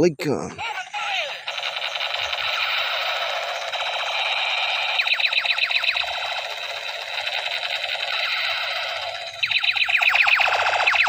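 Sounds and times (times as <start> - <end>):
toy gun laser zaps: 1.4 - 11.0.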